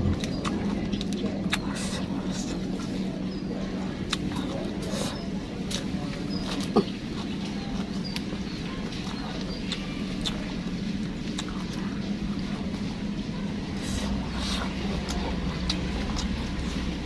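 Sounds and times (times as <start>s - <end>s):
chewing lettuce crunches: 0.0s - 3.1s, 3.8s - 12.9s, 13.8s - 17.0s
low hum: 0.0s - 17.0s.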